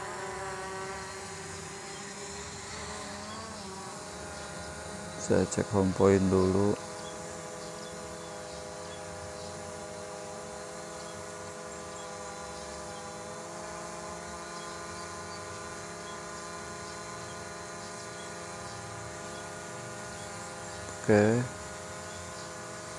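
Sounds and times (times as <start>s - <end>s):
drone propellers humming: 0.0s - 22.9s.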